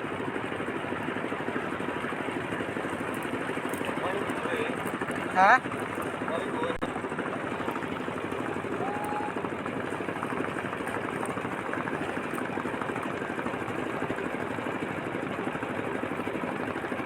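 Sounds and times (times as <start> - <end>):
small boat engine chugging: 0.0 - 17.0.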